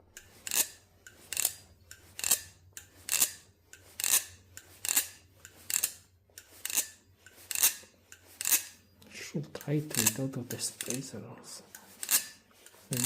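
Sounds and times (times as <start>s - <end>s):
balisong handles clacking: 0.0s - 13.0s.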